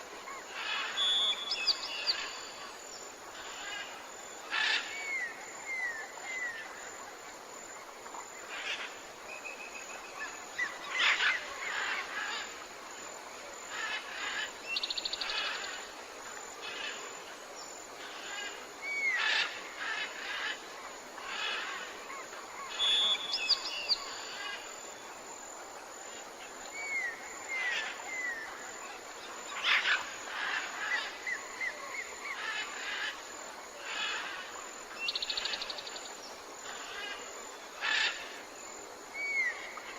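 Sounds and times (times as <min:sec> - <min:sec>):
soft steady hiss: 0:00.0 - 0:39.9.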